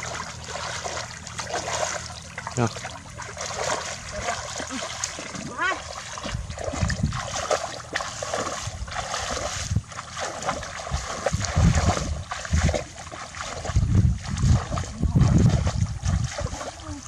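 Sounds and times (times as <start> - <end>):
shallow water sloshing: 0.0 - 17.0.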